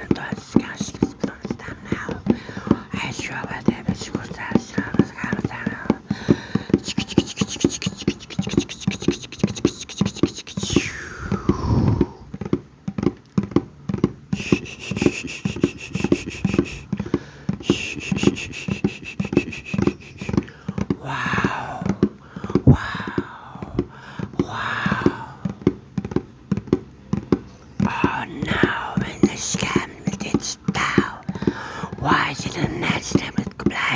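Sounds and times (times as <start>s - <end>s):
wet mouth clicks and pops: 0.0s - 12.6s, 14.4s - 25.4s, 27.8s - 33.9s
low thumps: 0.8s - 32.1s.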